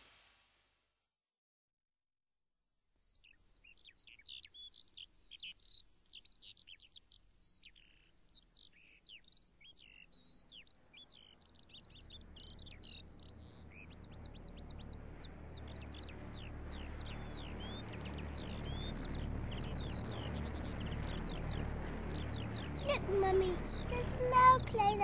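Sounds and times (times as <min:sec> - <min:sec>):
birds chirping: 0:03.0 - 0:25.0.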